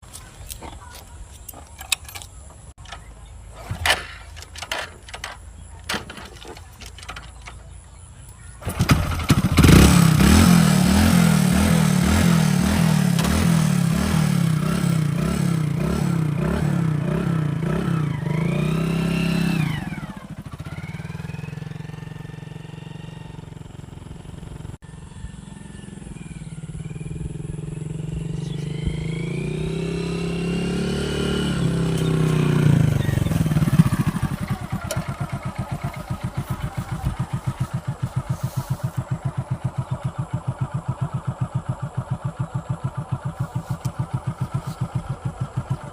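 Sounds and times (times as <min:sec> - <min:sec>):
motorcycle kick-start: 0:00.1 - 0:45.9
motorcycle engine running: 0:04.0 - 0:45.9.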